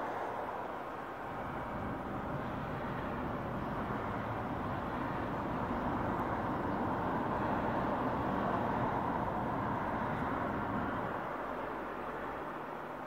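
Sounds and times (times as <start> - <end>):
road traffic rush: 0.0 - 13.0.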